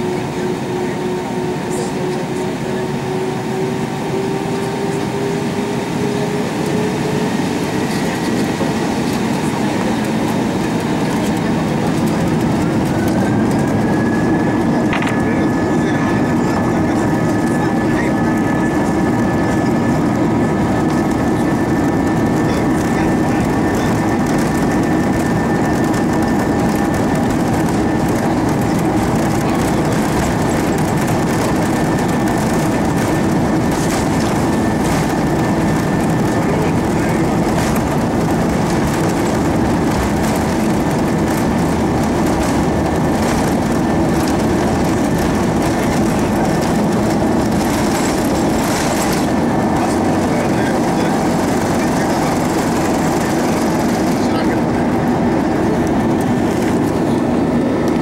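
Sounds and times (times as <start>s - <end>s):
jet engines droning: 0.0s - 58.0s
cabin rumble and rattle: 0.5s - 58.0s.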